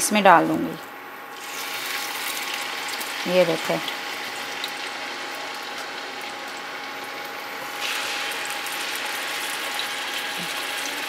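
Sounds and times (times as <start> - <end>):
electric cooktop hum: 0.0 - 11.0
chicken sizzling in a pan: 1.3 - 11.0.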